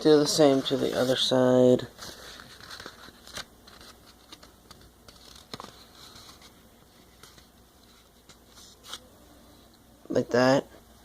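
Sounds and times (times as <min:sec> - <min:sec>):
paper folding rustles: 0:00.2 - 0:09.0.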